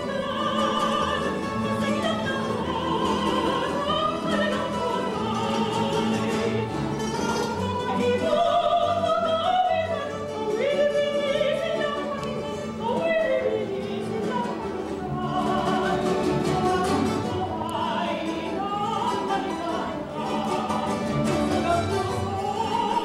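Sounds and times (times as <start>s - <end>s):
operatic singing: 0.0s - 23.0s
orchestral accompaniment: 0.0s - 23.0s.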